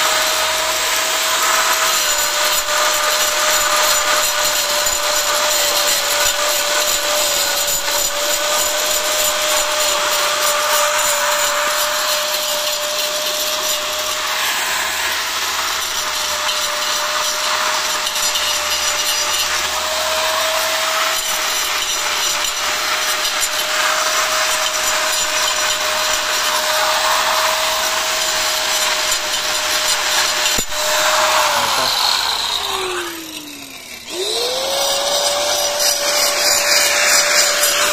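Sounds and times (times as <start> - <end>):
angle grinder cutting brick: 0.0 - 37.9.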